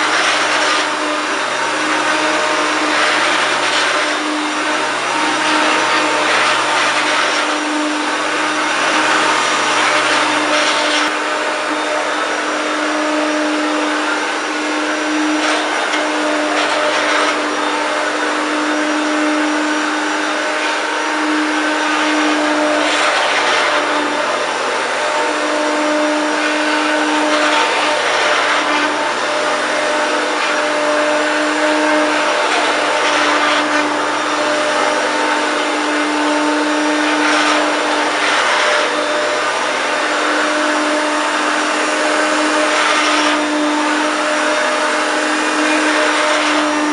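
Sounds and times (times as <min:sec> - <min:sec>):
upright vacuum cleaner running: 0:00.0 - 0:46.9.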